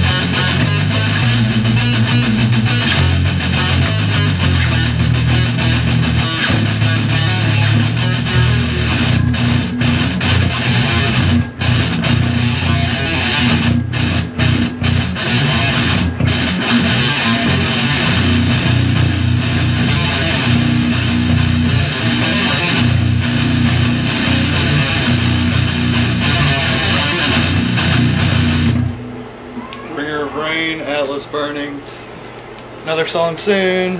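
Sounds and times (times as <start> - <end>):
bass guitar: 0.0 - 29.2
electric guitar metal riff: 0.0 - 30.7.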